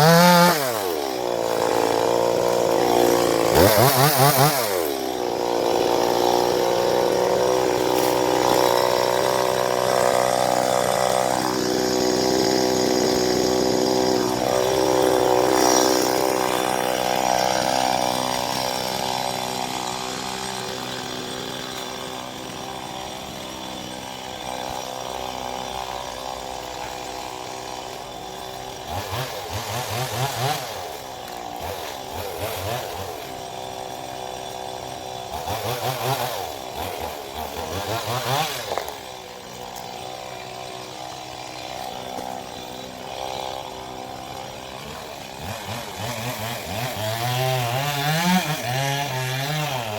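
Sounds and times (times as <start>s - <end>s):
chainsaw cutting: 0.0s - 49.9s.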